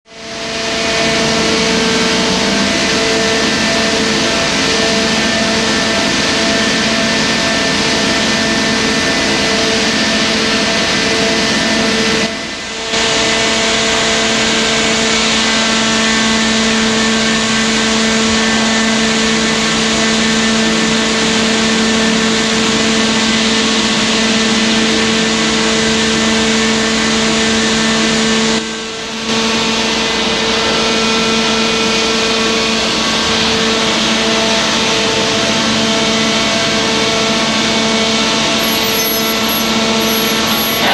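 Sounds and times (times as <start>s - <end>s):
bending machine humming: 0.2s - 40.9s.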